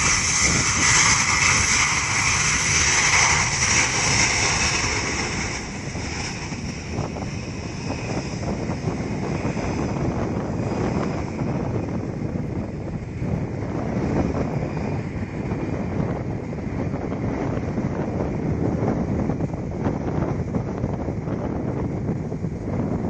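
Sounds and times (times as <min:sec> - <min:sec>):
airliner engines whining: 0:00.0 - 0:23.0
low rumble: 0:00.0 - 0:23.0.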